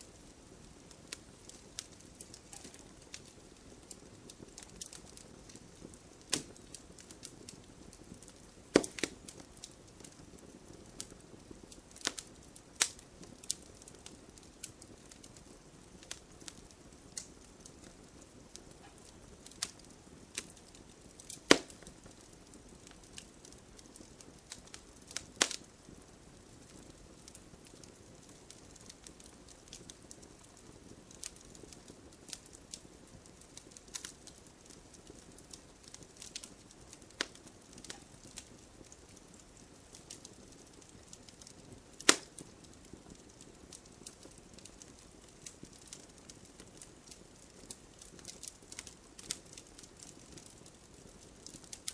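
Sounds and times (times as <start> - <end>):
wood fire crackling: 0.0 - 51.9
sharp pops of fire: 0.2 - 51.9.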